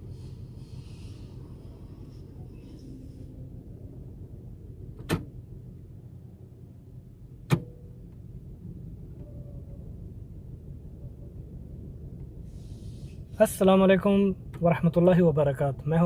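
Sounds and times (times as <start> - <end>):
car engine uneven rumble: 0.0 - 16.0.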